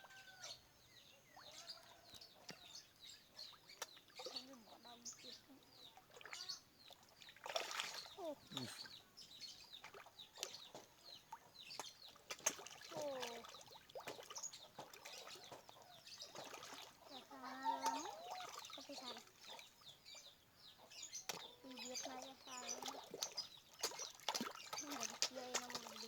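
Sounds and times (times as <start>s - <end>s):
water splashes and drips: 1.3s - 26.0s.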